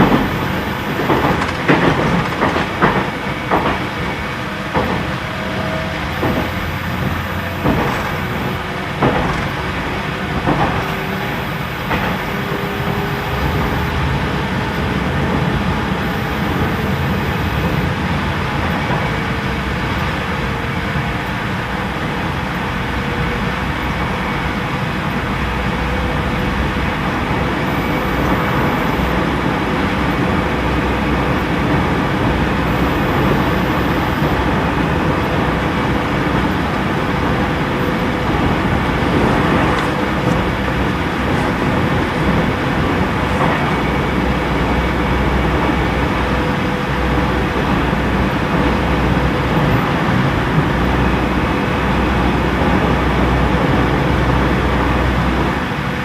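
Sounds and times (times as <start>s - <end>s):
air conditioning hum: 0.0s - 56.0s
train wheels rumbling on rails: 0.0s - 56.0s.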